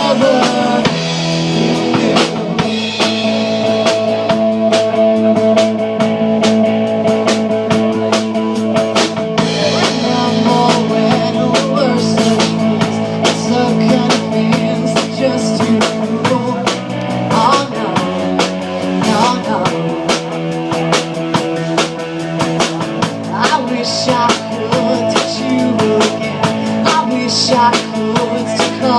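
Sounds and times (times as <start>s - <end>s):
drum kit beat: 0.0s - 28.9s
instrumental rock band: 0.0s - 28.9s.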